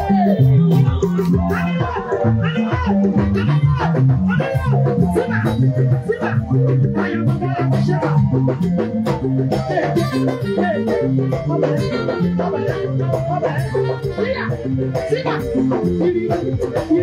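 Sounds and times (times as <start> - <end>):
bass guitar line: 0.0 - 17.0
drums keeping a steady beat: 0.0 - 17.0.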